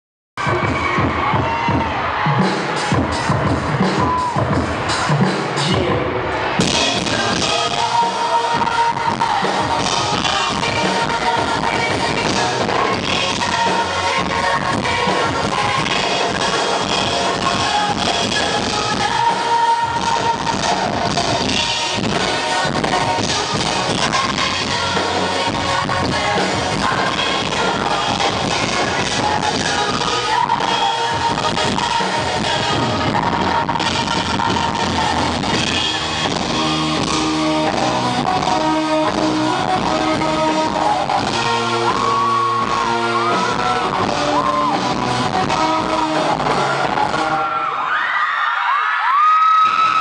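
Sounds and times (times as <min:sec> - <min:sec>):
drum kit beat: 0:00.4 - 0:47.4
live pop-rock band playing: 0:00.4 - 0:47.9.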